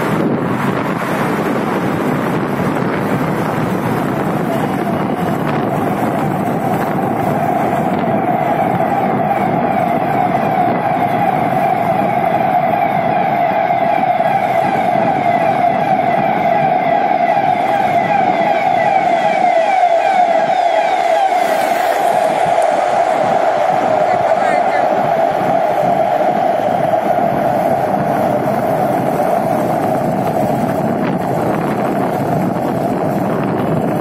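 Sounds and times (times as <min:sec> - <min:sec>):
motorcycle engine drone: 0:00.0 - 0:34.0
rushing noise: 0:00.0 - 0:34.0.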